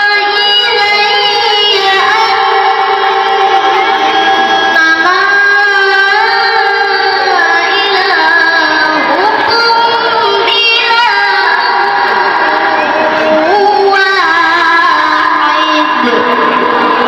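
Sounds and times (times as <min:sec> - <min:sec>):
boy reciting melodically: 0:00.0 - 0:03.5, 0:04.8 - 0:12.0, 0:13.2 - 0:16.4.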